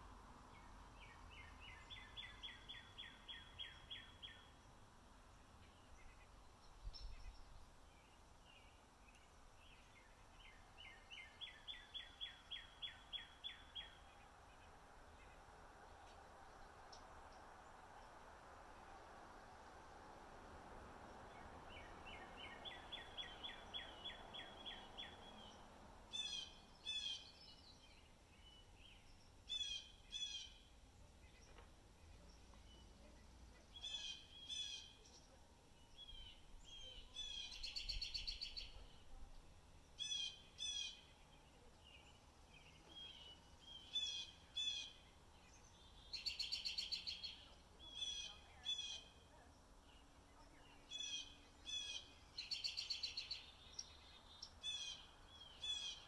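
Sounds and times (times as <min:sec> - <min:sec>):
small birds chirping: 0:00.5 - 0:19.8, 0:21.1 - 0:56.0.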